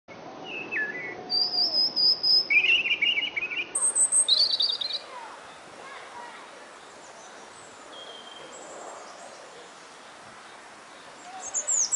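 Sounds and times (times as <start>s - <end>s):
robin singing: 0.4s - 11.9s.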